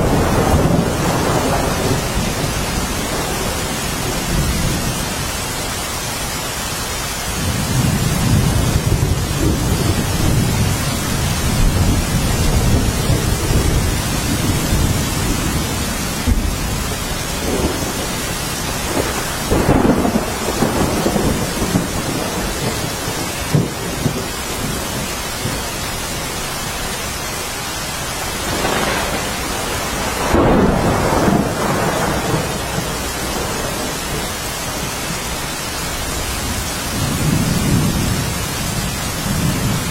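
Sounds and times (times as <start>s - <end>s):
thunder rumbling: 0.0s - 5.7s, 7.2s - 26.6s, 28.0s - 39.9s
steady rain falling: 0.0s - 39.9s.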